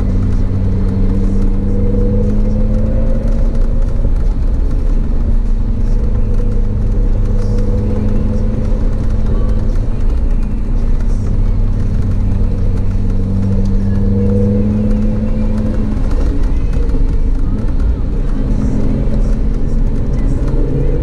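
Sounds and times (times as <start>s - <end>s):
car engine droning: 0.0s - 21.0s
tyre noise on wet road: 0.0s - 21.0s.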